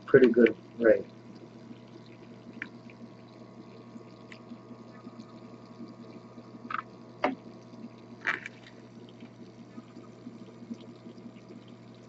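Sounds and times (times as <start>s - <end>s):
liquid dripping into glass flask: 0.0s - 12.0s
steady low hum: 0.0s - 12.0s.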